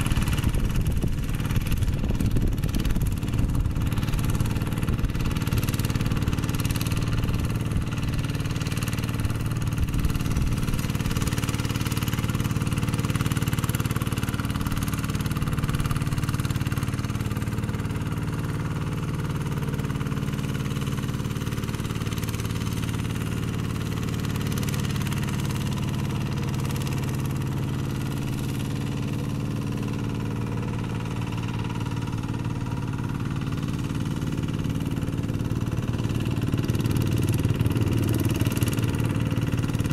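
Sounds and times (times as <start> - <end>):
diesel engine running: 0.0 - 39.9
rotary tiller through mud: 0.0 - 39.9.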